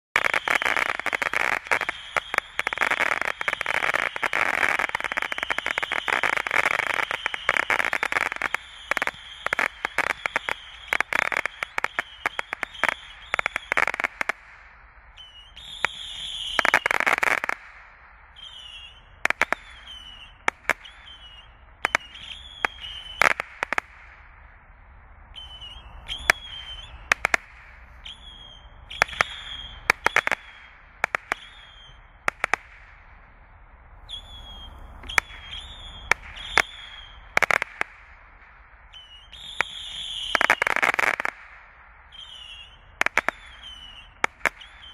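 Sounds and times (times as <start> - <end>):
firework pops: 0.2 - 24.4, 25.4 - 33.2, 34.1 - 44.9
firework whistles: 0.2 - 44.9.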